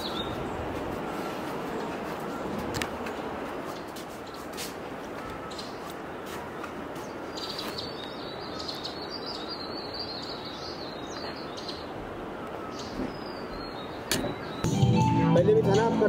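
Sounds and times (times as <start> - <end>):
small birds chirping: 0.0 - 14.8
outdoor background rush: 0.0 - 16.0.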